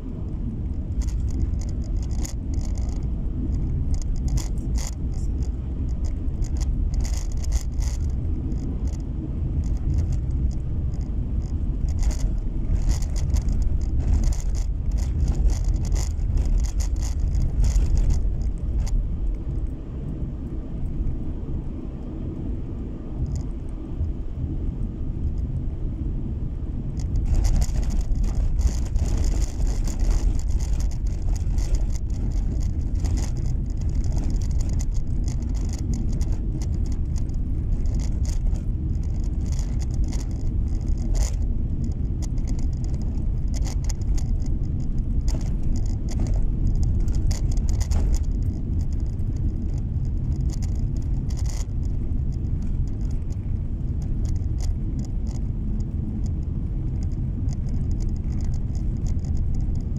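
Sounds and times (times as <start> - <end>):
tyre and engine rumble: 0.0 - 59.9
crackles and ticks: 0.2 - 19.8, 23.2 - 24.2, 27.0 - 59.9.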